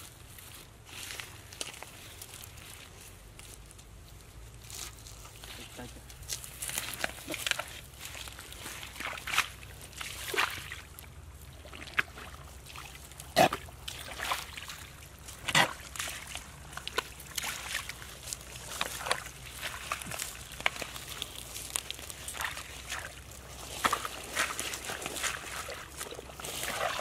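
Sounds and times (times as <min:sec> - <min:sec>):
bare feet splashing through mud: 0:00.0 - 0:27.0.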